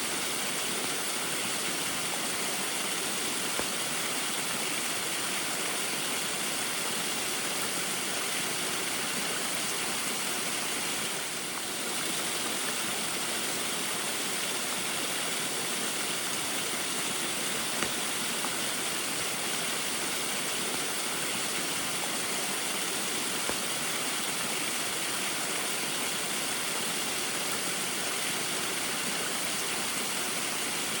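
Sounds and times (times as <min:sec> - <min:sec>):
rain: 0:00.0 - 0:31.0.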